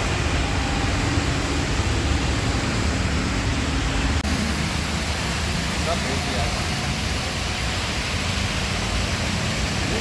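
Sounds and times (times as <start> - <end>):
vehicle rumble: 0.0 - 10.0.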